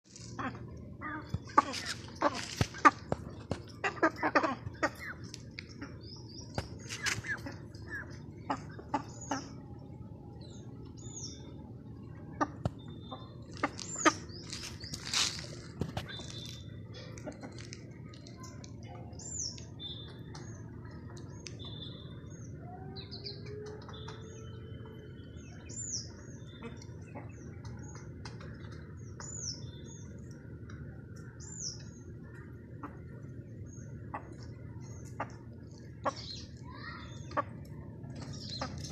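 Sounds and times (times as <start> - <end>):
birds chirping: 0.0 - 38.9
low background noise: 0.0 - 38.9.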